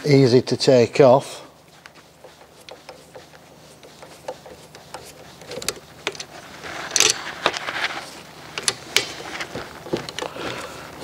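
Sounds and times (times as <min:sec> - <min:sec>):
hand tools clicking and scraping: 0:01.8 - 0:10.7.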